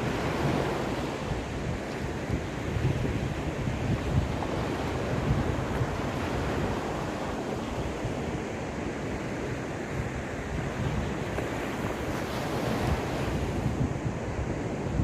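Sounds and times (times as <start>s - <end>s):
waves washing onto shore: 0.0s - 15.0s
wind buffeting microphone: 0.0s - 15.0s.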